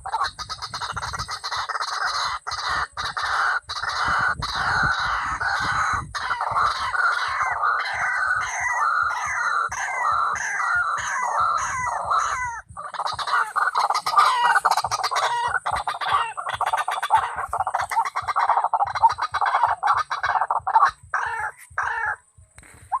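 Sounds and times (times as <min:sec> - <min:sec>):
waterhen calling: 0:00.0 - 0:22.2.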